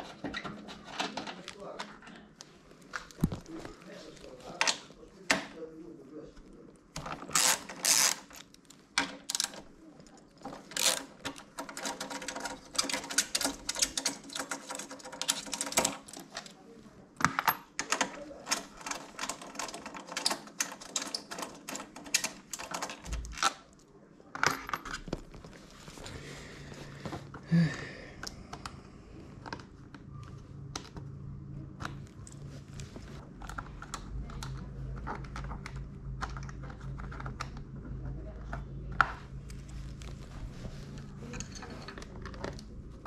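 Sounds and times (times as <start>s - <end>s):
low steady hum: 0.3s - 43.0s.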